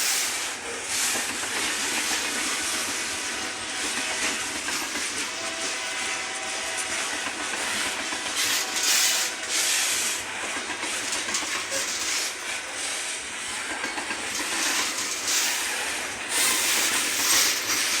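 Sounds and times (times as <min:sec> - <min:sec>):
train wheels rushing on rails: 0:00.0 - 0:18.0.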